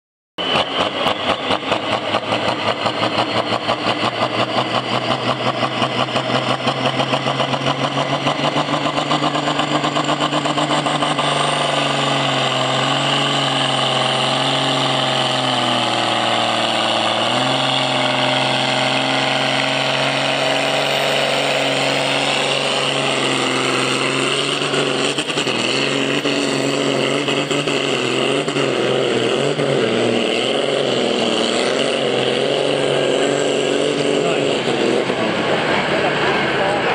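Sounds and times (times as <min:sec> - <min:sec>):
tractor diesel engine under load: 0:00.4 - 0:36.9.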